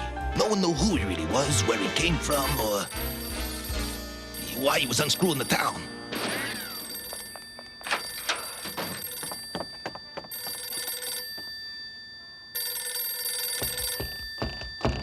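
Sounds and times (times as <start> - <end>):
telephone bell ringing: 2.3 - 15.0.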